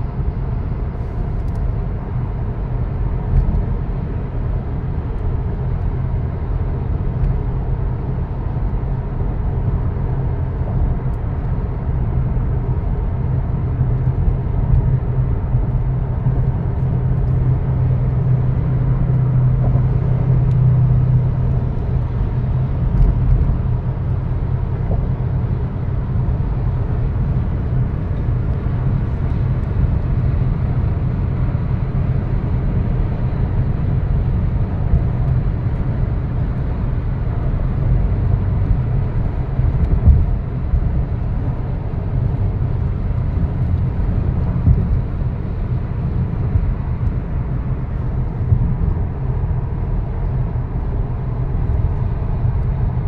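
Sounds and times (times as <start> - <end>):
car engine drone: 0.0 - 53.0
road and tyre rumble: 0.0 - 53.0.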